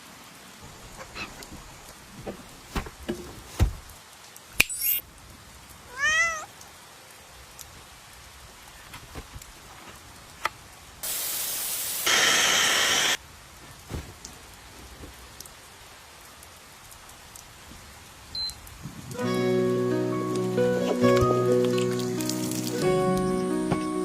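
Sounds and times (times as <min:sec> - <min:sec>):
rain pattering on a tent: 0:00.0 - 0:24.0.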